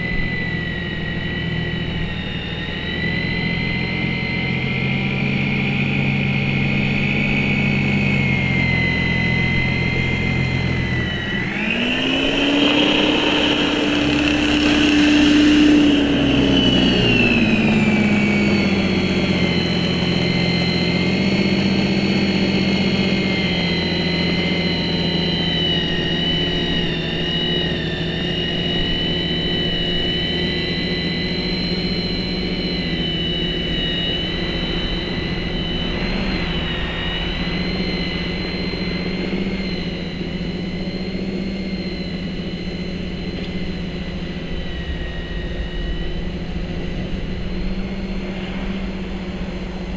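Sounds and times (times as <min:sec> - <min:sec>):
snow thrower motor whine: 0:00.0 - 0:49.9.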